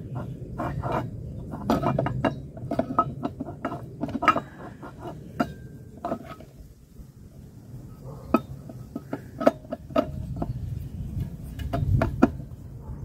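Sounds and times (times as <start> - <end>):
metal flywheel clinking and scraping: 0.0 - 7.1, 7.8 - 12.6.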